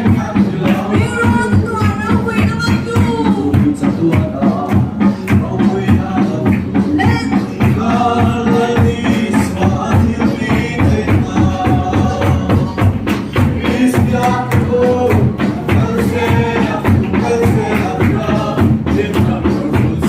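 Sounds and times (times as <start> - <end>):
group singing a hymn: 0.0 - 20.0
steady percussion beat: 0.0 - 20.0.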